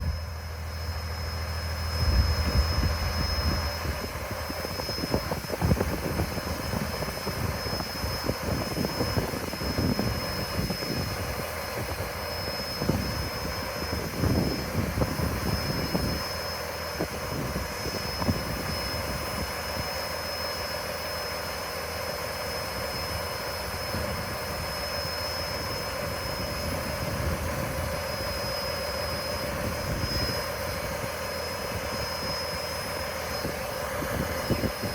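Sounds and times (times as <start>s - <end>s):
steady high whine: 0.0s - 34.9s.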